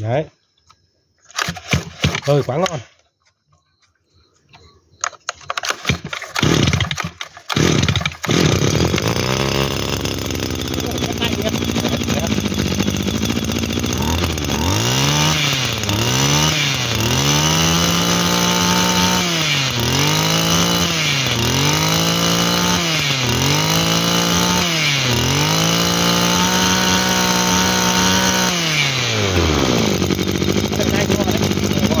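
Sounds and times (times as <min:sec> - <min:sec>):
brush cutter engine revving: 0:01.3 - 0:02.8, 0:05.4 - 0:32.0.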